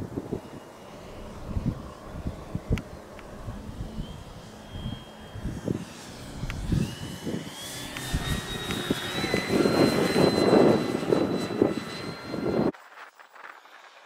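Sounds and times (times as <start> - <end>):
electric motor whining: 0.0 - 12.7
wind buffeting microphone: 0.0 - 12.7.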